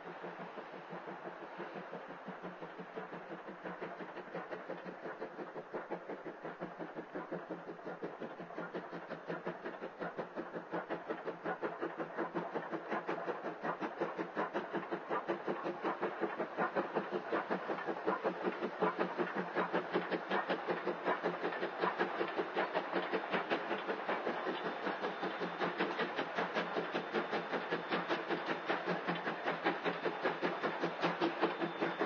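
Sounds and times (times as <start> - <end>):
steam locomotive exhaust chuffing: 0.0 - 32.0.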